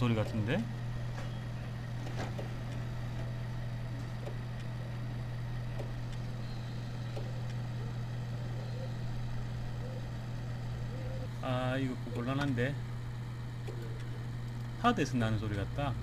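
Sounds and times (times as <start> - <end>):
computer fans humming: 0.0 - 16.0
hard disk drive ticking: 0.0 - 16.0.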